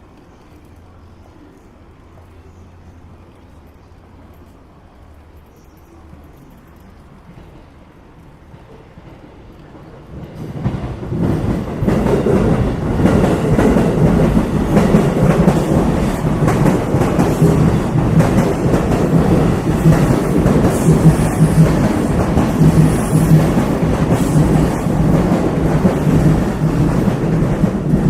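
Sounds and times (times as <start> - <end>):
train passing: 0.0 - 28.0.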